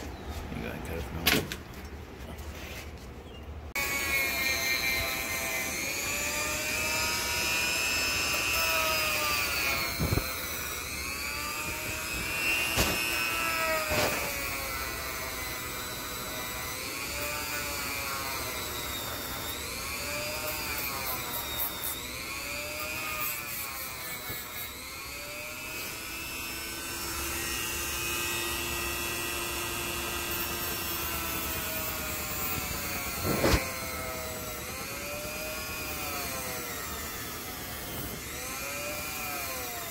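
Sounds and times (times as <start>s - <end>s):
power tool motor whirring: 3.7s - 39.9s.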